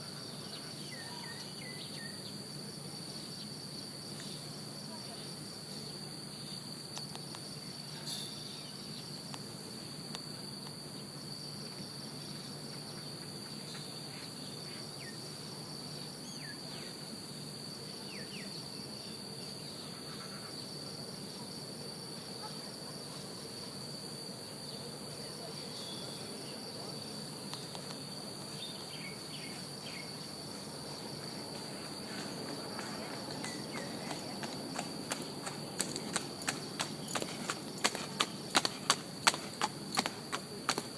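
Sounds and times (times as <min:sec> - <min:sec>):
insect chorus trilling: 0:00.0 - 0:40.9.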